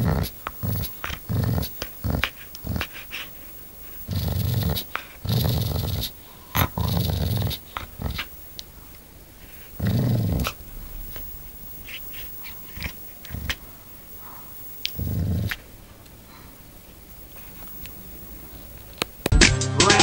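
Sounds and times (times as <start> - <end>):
dog growling: 0.0 - 16.6.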